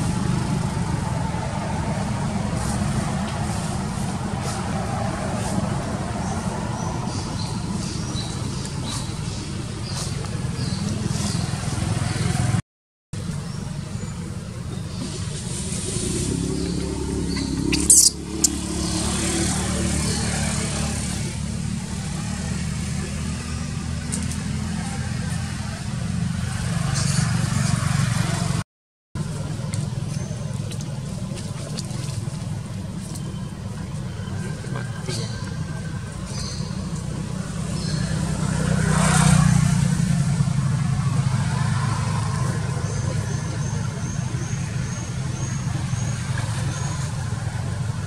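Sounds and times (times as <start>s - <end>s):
vehicle traffic rumble: 0.0s - 12.6s, 13.2s - 28.6s, 29.2s - 48.0s.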